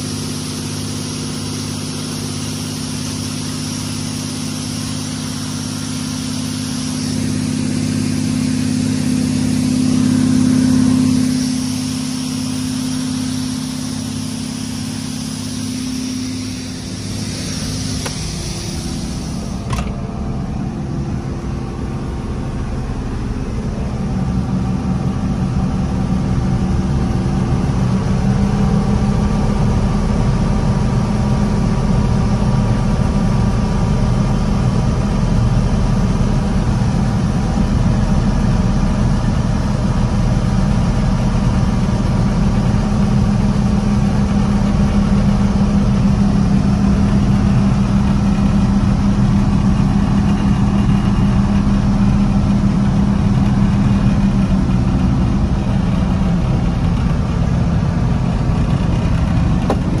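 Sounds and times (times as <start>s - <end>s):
combine harvester running: 0.0s - 60.0s.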